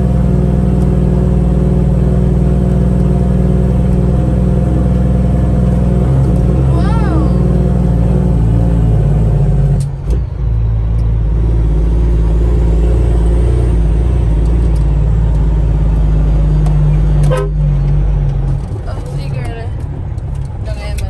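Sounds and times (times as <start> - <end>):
truck diesel engine humming: 0.0 - 21.0.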